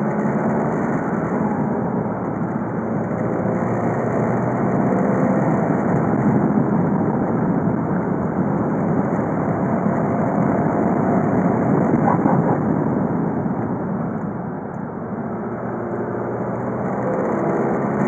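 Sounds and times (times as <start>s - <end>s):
diesel car engine running: 0.0s - 18.0s
road noise: 0.0s - 18.0s.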